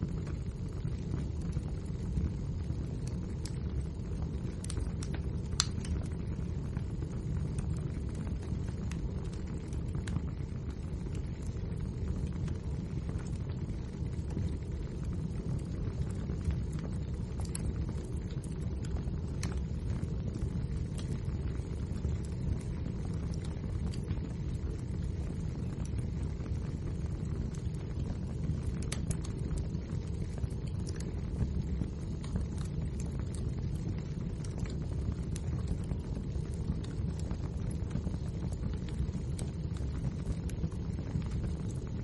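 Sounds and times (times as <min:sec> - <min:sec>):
fire crackles and pops: 0:00.0 - 0:42.0
low roar of flames: 0:00.0 - 0:42.0.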